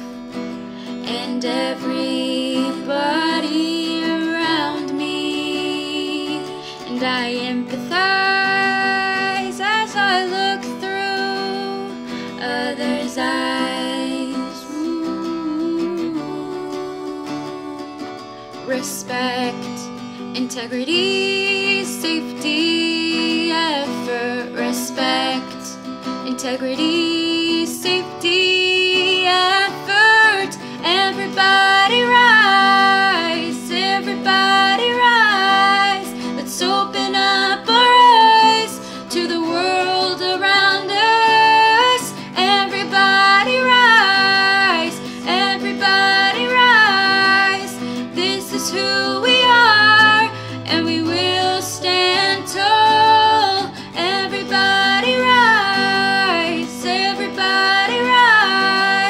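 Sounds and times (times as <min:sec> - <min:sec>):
acoustic guitar: 0:00.0 - 0:59.0
woman singing: 0:00.0 - 0:59.0.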